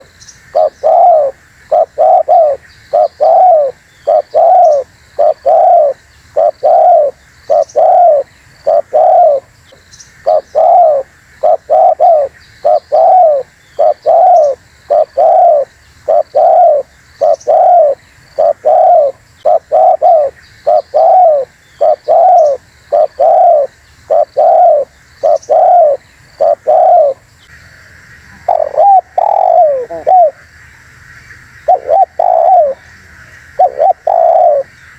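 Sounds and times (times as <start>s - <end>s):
dove cooing: 0.0s - 9.5s, 10.2s - 27.2s, 28.3s - 30.5s, 31.6s - 34.8s.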